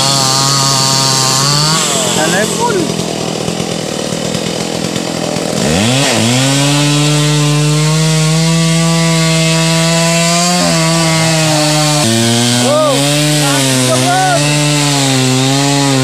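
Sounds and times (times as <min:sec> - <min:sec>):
two-stroke chainsaw revving: 0:00.0 - 0:16.0.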